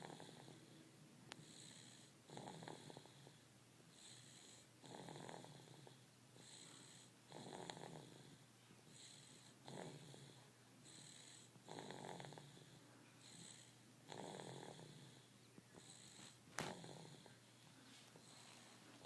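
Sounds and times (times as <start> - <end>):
faint rasping snoring: 0.0 - 17.4, 18.2 - 18.7.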